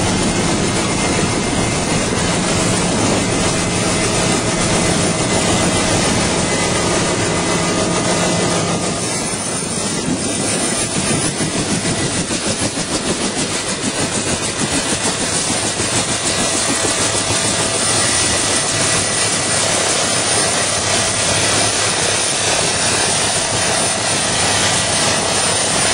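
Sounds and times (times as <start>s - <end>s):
rotor blades pulsing beat: 0.0s - 25.8s
helicopter turbine and rotor: 0.0s - 25.9s.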